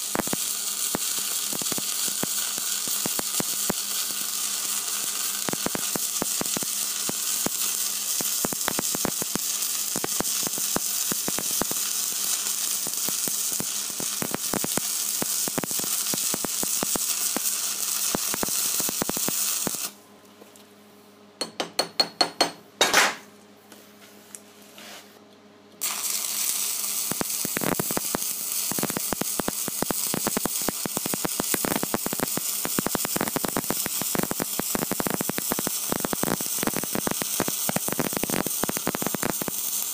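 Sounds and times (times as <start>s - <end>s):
welding arc crackling: 0.0s - 20.0s, 25.8s - 39.9s.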